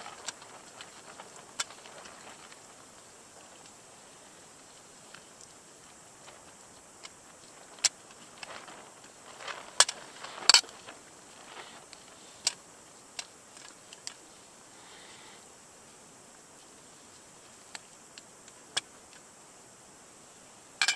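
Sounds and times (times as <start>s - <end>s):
soft rustling: 0.0s - 19.3s.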